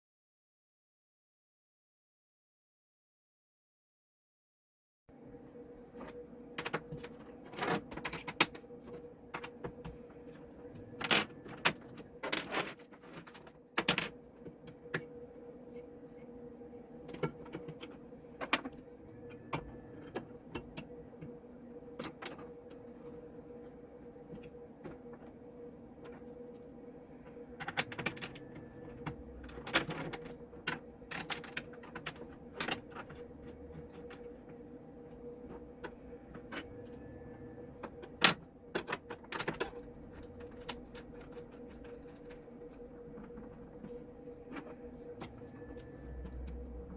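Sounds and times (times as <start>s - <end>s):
steady hum: 5.1s - 46.9s.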